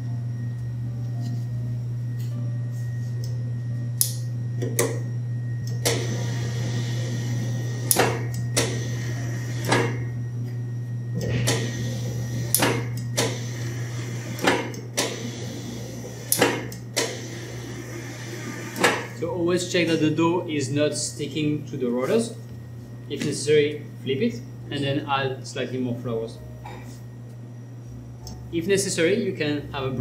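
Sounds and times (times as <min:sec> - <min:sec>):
machine motor humming: 0:00.0 - 0:30.0.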